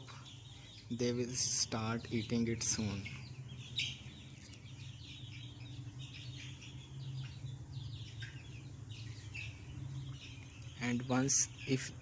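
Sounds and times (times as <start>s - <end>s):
chicks peeping: 0.0s - 12.0s
steady low hum: 0.0s - 12.0s.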